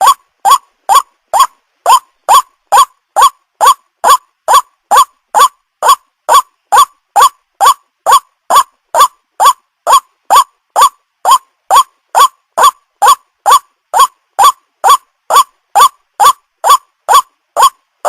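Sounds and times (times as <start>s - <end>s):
waterhen calling: 0.0s - 17.8s.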